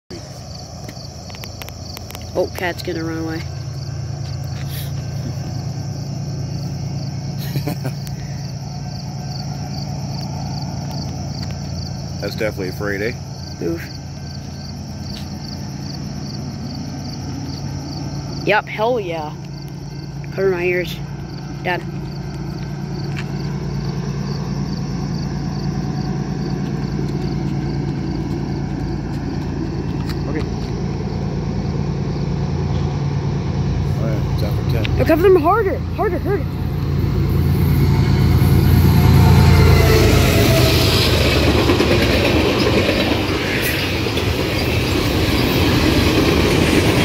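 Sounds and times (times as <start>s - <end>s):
steady low hum: 0.1s - 39.8s
crickets chirping: 0.1s - 47.0s
diesel locomotive engine drone: 0.1s - 47.0s.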